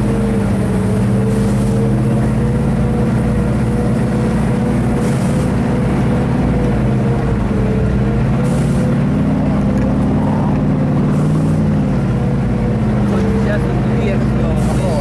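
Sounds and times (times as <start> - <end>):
armoured car engine running: 0.0 - 15.0.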